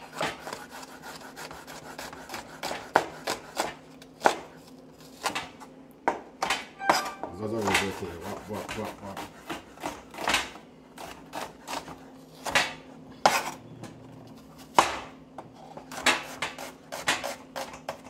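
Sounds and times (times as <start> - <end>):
knife slicing onion on wood: 0.0 - 5.6, 7.1 - 13.6, 14.6 - 18.0.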